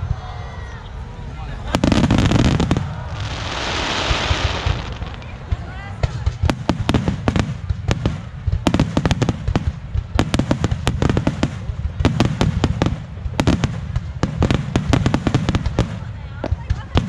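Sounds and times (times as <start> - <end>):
continuous low rumble: 0.0 - 17.0
fireworks bursting: 1.5 - 17.0.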